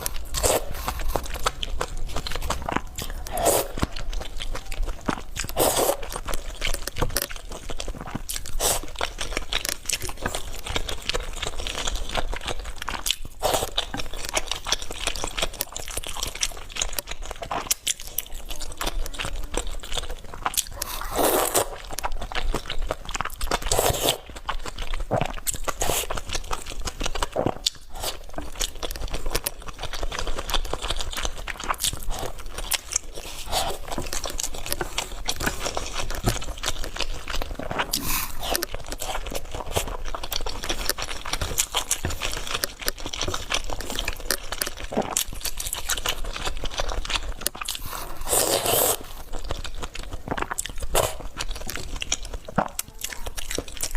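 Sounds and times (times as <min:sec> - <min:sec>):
wet chewing and crunching: 0:00.0 - 0:53.9.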